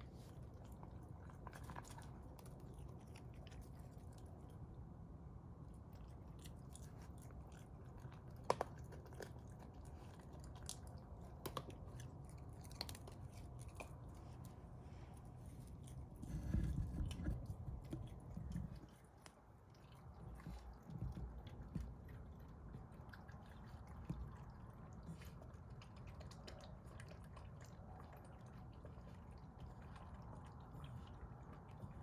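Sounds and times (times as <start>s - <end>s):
raccoon chewing: 0.0s - 32.0s.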